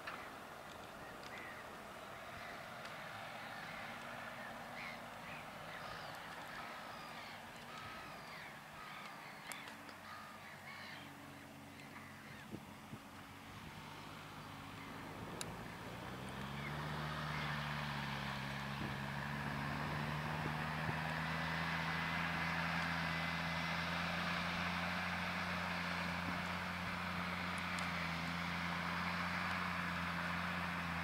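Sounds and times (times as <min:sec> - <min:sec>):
tractor diesel engine under load: 0:00.0 - 0:10.4, 0:11.1 - 0:31.0.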